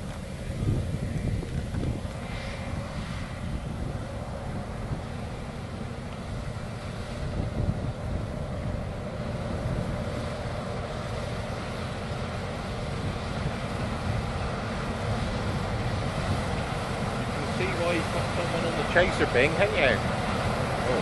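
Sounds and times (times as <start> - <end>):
combine harvester running: 0.0 - 21.0
wind rumbling on microphone: 0.0 - 21.0.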